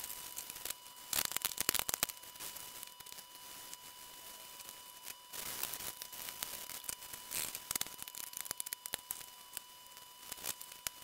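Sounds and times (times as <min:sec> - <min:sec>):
faint steady tone: 0:00.0 - 0:11.0.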